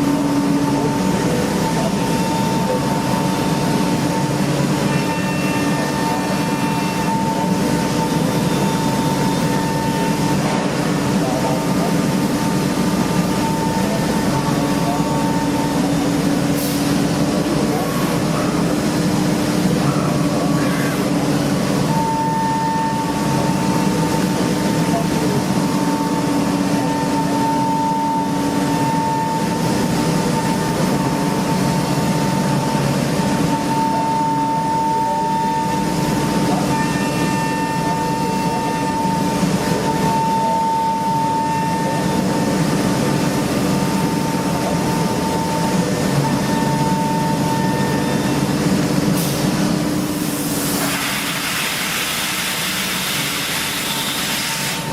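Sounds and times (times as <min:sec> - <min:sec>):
high mechanical whine: 0:00.0 - 0:54.9
machining centre running: 0:00.0 - 0:54.9.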